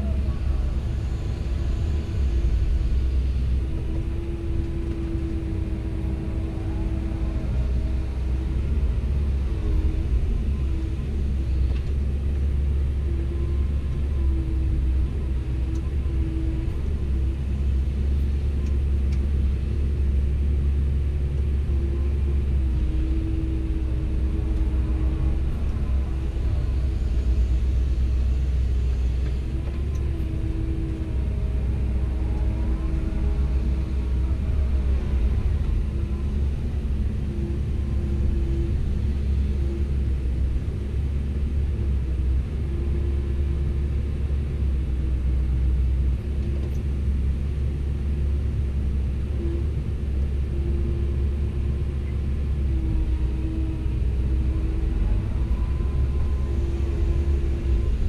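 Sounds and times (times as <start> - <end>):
hydraulic droning tone: 0.0 - 46.5, 48.6 - 58.0
excavator diesel engine rumbling: 0.0 - 58.0.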